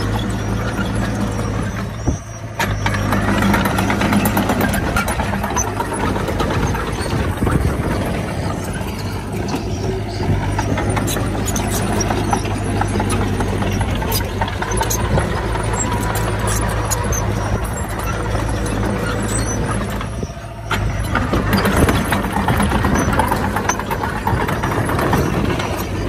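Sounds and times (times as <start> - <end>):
diesel machinery engine running: 0.0 - 26.0.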